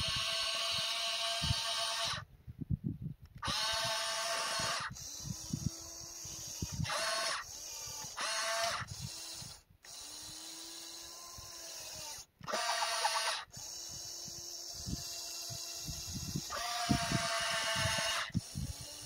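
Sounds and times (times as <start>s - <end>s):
electric motors whining: 0.0s - 2.3s, 3.4s - 19.0s.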